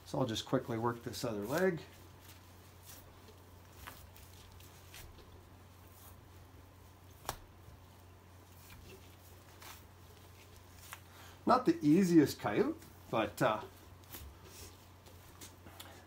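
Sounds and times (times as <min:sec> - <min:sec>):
fur rustling and ticking: 0:00.0 - 0:15.6
steady low hum: 0:00.0 - 0:16.0.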